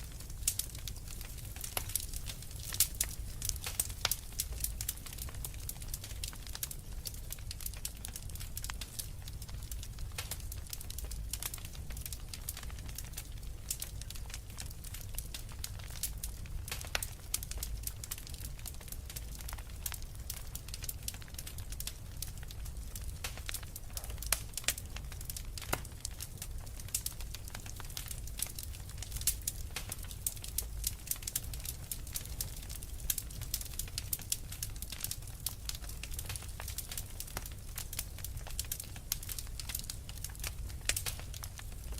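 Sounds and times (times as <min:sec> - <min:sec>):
logs crackling and popping: 0:00.0 - 0:41.9.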